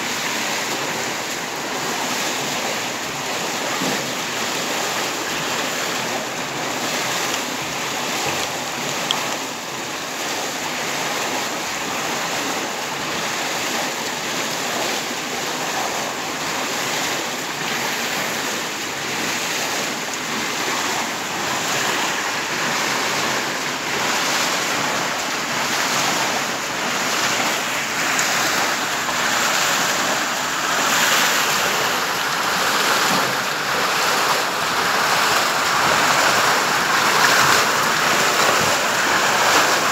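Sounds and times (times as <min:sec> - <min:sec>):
water splashing through mill wheel: 0:00.0 - 0:39.9.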